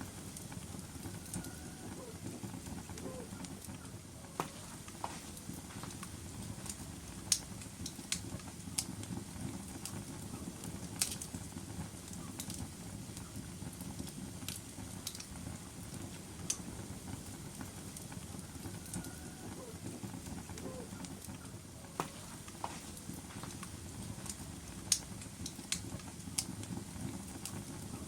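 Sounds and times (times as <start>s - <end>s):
fire rumbling: 0.0s - 28.0s
wood crackling and popping: 0.0s - 28.0s.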